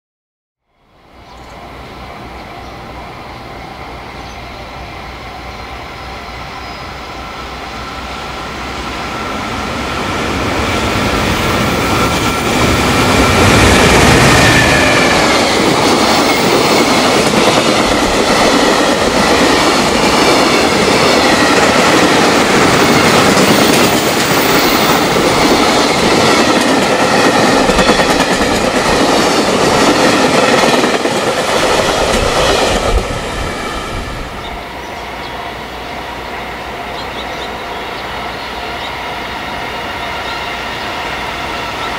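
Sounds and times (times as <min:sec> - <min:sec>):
train wheels rolling on rails: 0:01.4 - 0:41.9.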